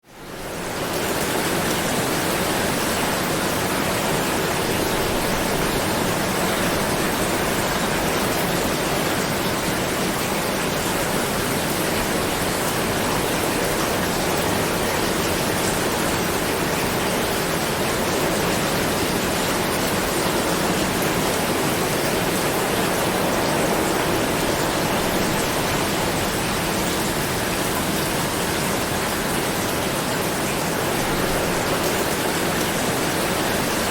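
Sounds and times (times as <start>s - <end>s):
heavy rain hissing: 0.2s - 33.9s.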